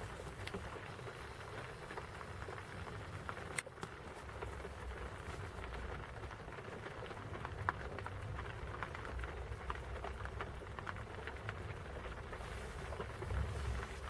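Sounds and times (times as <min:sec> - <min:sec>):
raindrops ticking: 0:00.0 - 0:14.0
steady rain falling: 0:00.0 - 0:14.0.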